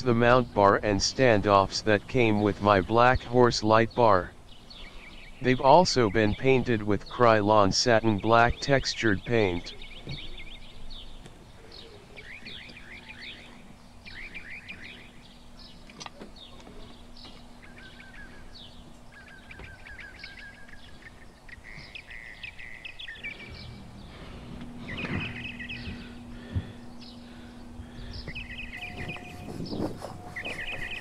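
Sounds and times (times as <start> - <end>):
faint steady hum: 0.0 - 31.0
small birds chirping: 0.0 - 31.0.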